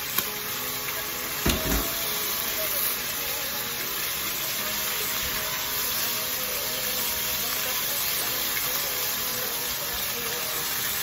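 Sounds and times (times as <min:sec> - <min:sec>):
liver sizzling in hot oil: 0:00.0 - 0:11.0.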